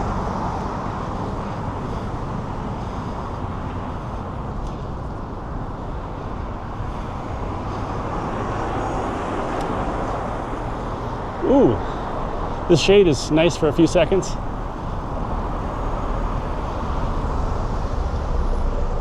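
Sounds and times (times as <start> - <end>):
traffic rushing: 0.0 - 19.0.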